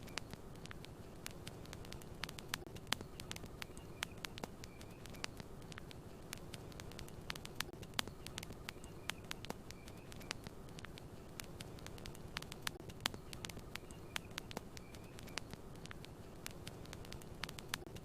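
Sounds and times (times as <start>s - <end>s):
campfire crackling and popping: 0.0s - 18.0s
low rumble of burning wood: 0.0s - 18.0s.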